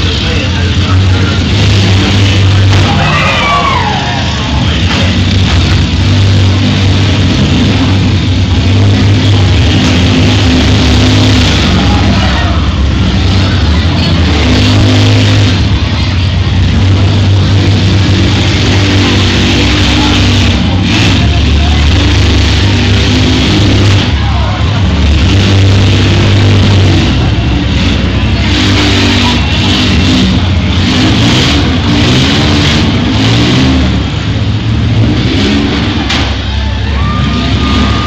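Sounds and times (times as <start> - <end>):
engines revving and accelerating: 0.0 - 38.0.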